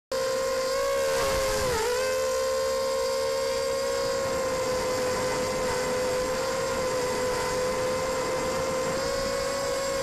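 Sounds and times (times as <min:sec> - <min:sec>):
drone propellers whining: 0:00.1 - 0:10.0.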